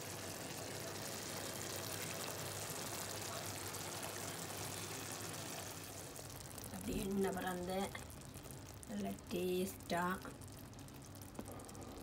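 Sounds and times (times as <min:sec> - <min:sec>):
thick curry bubbling: 0:00.0 - 0:12.0.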